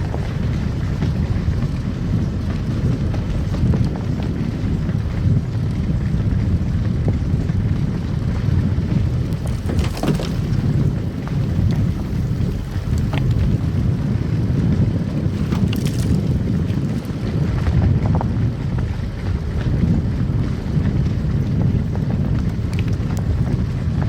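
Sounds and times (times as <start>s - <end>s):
crackles and clicks: 0.0s - 24.0s
tyres and engine rumbling: 0.0s - 24.0s.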